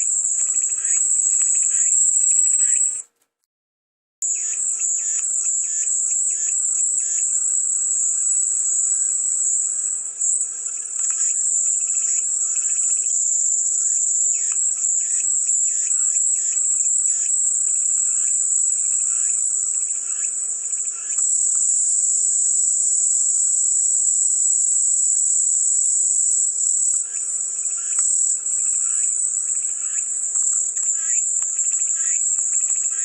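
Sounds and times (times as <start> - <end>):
cicadas buzzing: 0.0 - 3.0, 4.2 - 33.0
lower pulsing insect call: 0.0 - 3.0, 4.2 - 33.0.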